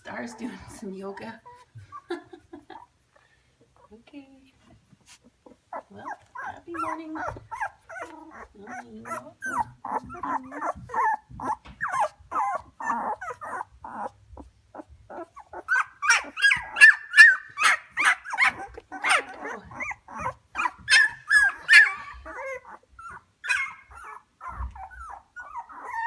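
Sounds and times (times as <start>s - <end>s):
puppies whimpering and squealing: 0.1s - 3.0s, 5.0s - 26.0s.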